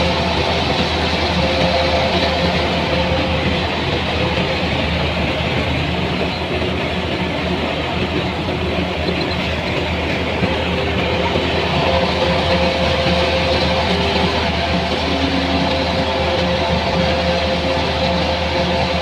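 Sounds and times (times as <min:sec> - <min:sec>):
farm machinery running: 0:00.0 - 0:19.0.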